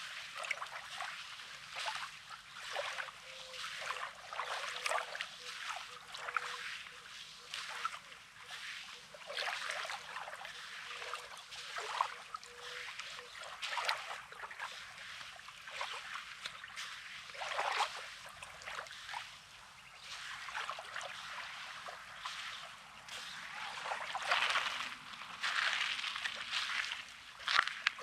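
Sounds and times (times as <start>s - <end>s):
waves lapping on pebbly shore: 0.0s - 28.0s.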